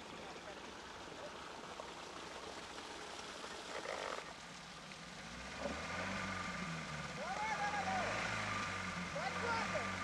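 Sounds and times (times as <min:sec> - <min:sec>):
outdoor hiss: 0:01.0 - 0:10.0.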